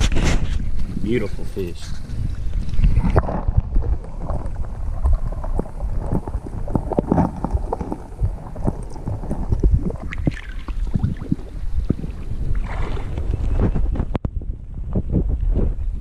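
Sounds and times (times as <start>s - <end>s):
underwater clicks and crackles: 0.0s - 15.8s
underwater river rumble: 0.0s - 16.0s.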